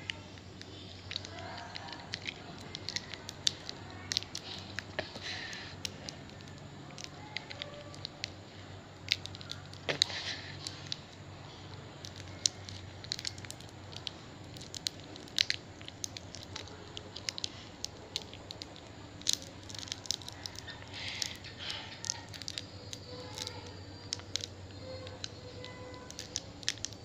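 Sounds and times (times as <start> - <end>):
faint low hum: 0.0 - 27.0
plastic wrapper crinkling: 0.0 - 27.0.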